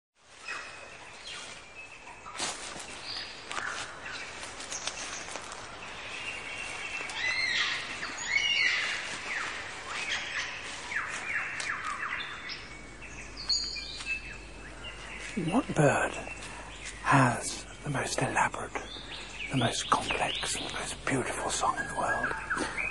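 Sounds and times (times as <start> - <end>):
birdsong: 0.2 - 22.9.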